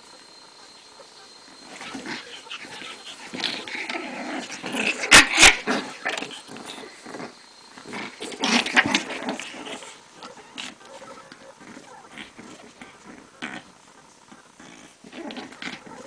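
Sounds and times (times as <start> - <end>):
puppy growling: 1.6 - 16.0.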